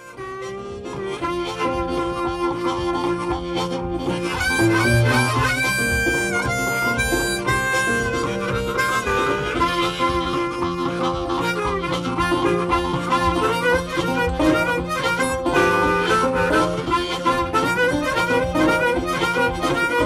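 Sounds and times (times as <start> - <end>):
guitar: 0.0 - 20.0
harmonica bending notes: 0.0 - 20.0.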